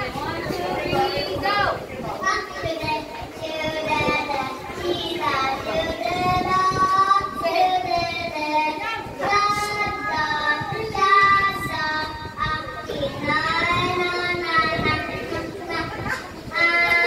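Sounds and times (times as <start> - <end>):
child singing: 2.2 - 17.0.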